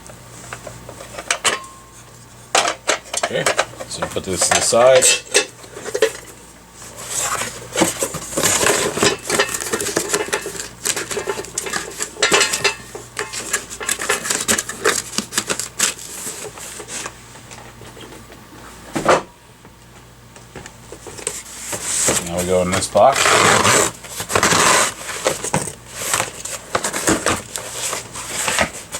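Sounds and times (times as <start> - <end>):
parts and packaging clattering: 2.6 - 18.2, 20.9 - 28.9.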